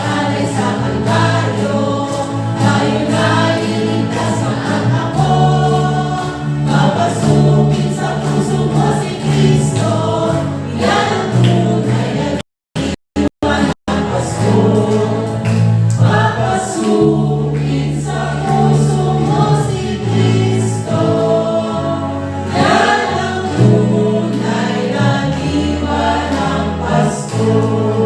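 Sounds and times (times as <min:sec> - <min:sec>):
choir singing a carol: 0:00.0 - 0:28.0
instrumental accompaniment: 0:00.0 - 0:28.0.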